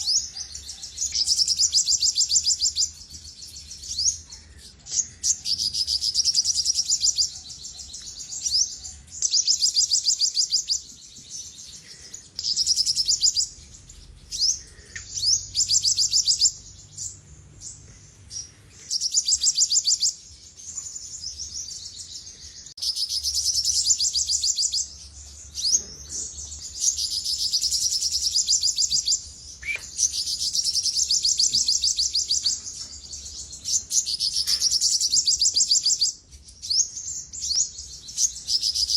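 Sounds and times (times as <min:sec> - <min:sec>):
bird singing fast trills: 0:00.0 - 0:38.9.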